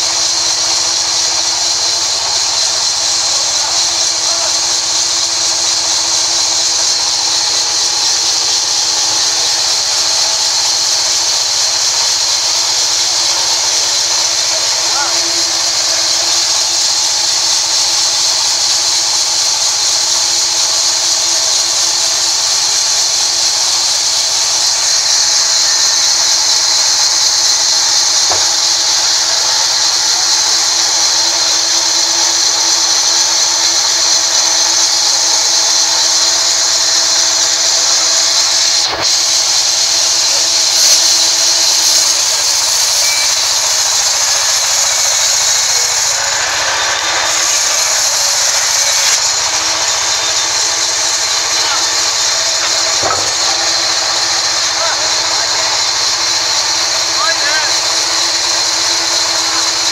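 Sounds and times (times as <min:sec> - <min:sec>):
band saw cutting a log: 0:00.0 - 0:59.9.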